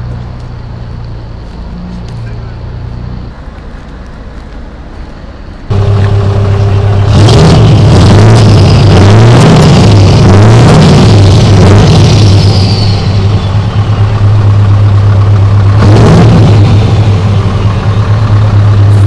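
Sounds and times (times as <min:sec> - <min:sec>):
vehicle running quietly: 0:00.0 - 0:09.3, 0:11.0 - 0:19.0
truck engine revving: 0:00.0 - 0:19.0.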